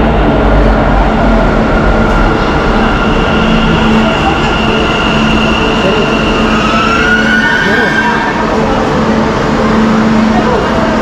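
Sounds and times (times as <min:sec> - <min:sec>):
metro train rumble: 0:00.0 - 0:11.0.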